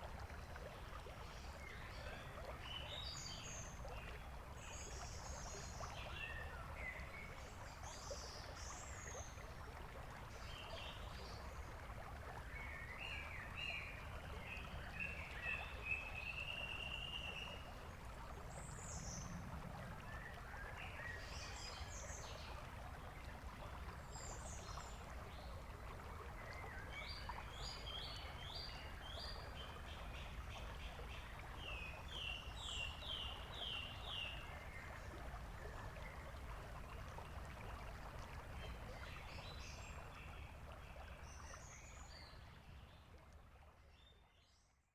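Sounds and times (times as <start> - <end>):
low background hiss: 0.0 - 44.6.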